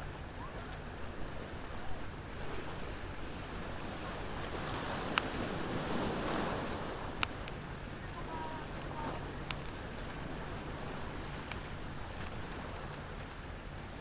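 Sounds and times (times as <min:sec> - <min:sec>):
sea waves washing ashore: 0:00.0 - 0:14.0
campfire wood crackling: 0:01.7 - 0:13.2.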